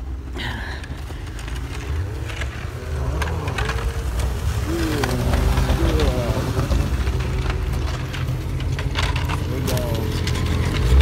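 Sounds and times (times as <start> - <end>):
snowmobile engine passing by: 0.8 - 11.0.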